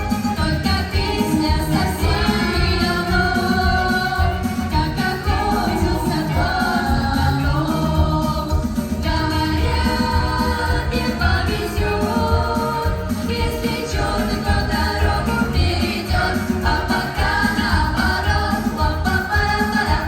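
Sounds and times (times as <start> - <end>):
band with steady low beat: 0.0 - 20.0
person singing: 0.0 - 20.0.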